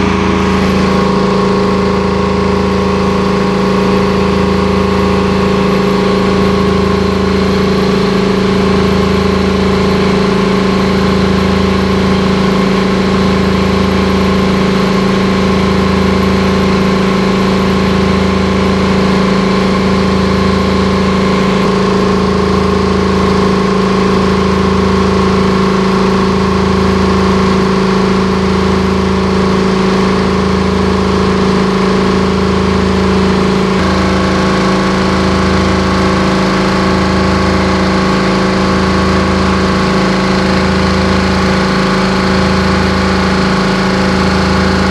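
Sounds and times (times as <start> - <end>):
air compressor drone: 0.0 - 44.9.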